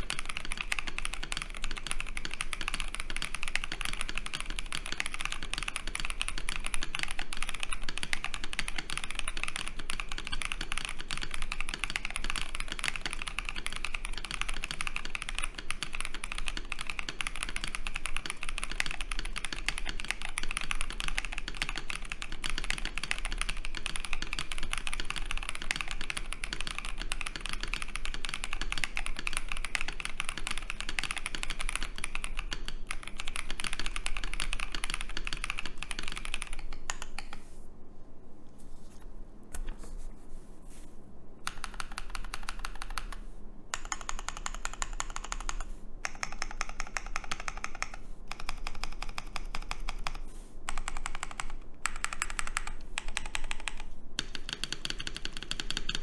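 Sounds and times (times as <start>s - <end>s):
mechanical keyboard typing: 0.0s - 37.5s, 41.4s - 56.0s.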